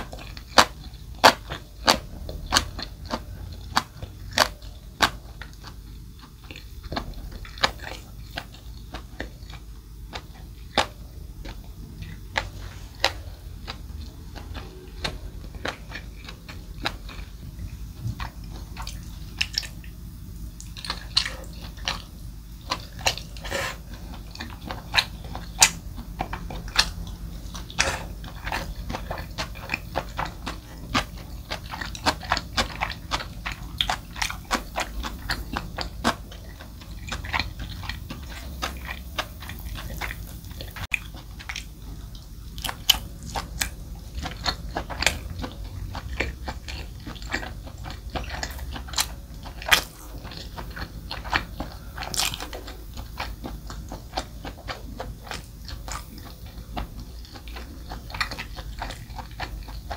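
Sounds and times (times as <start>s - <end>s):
wet chewing smacks: 0.0s - 59.9s.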